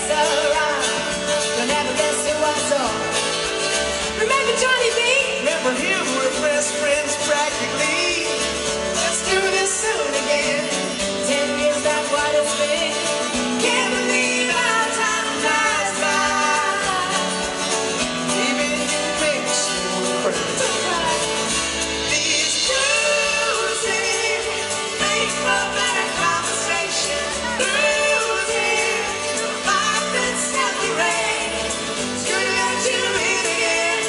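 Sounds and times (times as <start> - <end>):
man and woman singing duet: 0.0 - 3.2, 4.0 - 34.0
live pop-rock band: 0.0 - 34.0.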